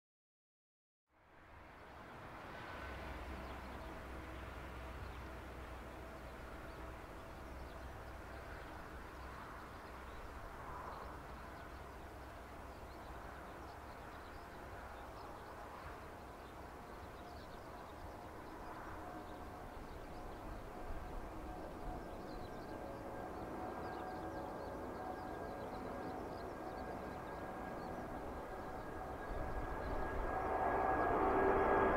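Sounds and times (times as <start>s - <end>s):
distant jet engines rumbling: 1.8s - 31.9s.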